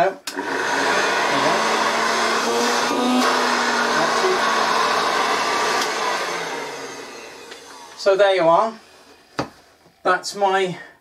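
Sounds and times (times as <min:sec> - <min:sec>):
hand vacuum cleaner running: 0:00.3 - 0:09.3.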